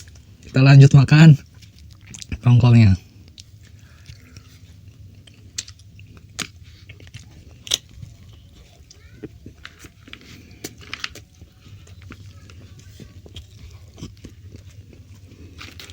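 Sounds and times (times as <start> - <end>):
chewing and biting fish: 1.4 - 15.9.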